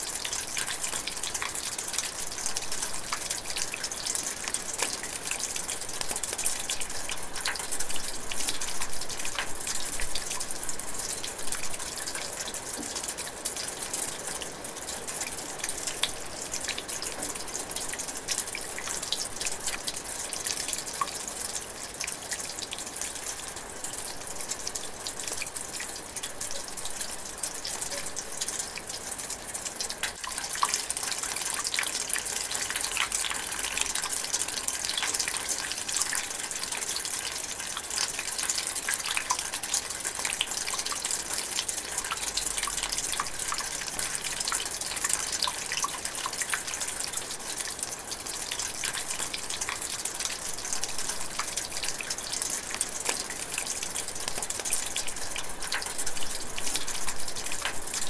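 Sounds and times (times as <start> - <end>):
light rain in a forest: 0.0 - 58.0
raindrops ticking: 0.0 - 58.0.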